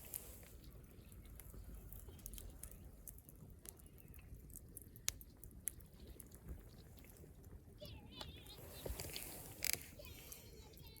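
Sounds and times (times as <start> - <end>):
wood campfire crackling: 0.0 - 11.0.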